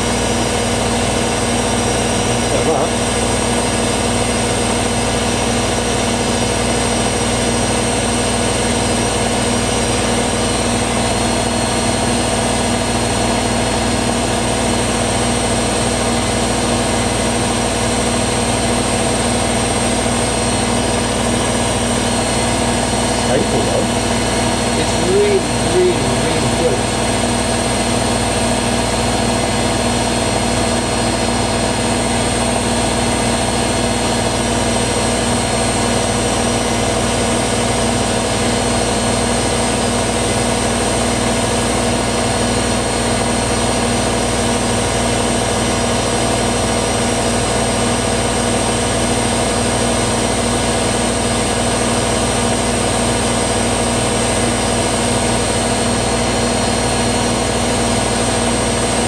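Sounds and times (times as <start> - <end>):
washer dryer spinning: 0.0 - 59.0.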